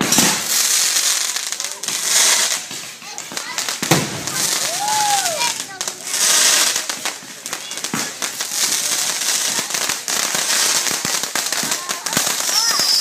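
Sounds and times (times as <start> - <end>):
fireworks bursting: 0.0 - 13.0
fireworks crackling and popping: 0.0 - 13.0.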